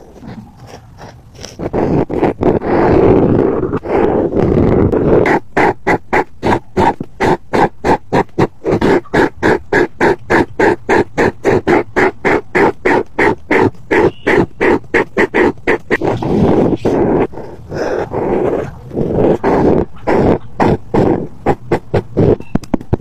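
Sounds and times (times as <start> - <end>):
coloring strokes on paper: 0.0 - 22.4.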